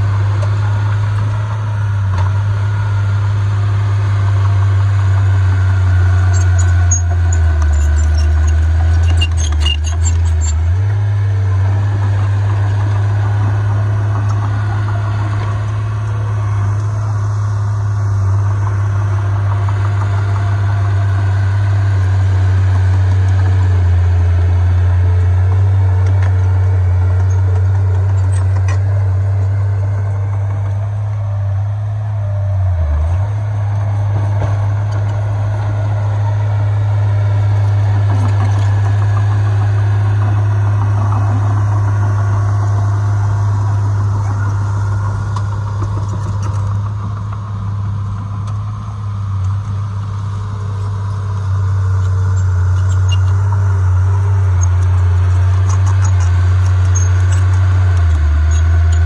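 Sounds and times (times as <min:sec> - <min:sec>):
heavy diesel engine humming: 0:00.0 - 0:59.0.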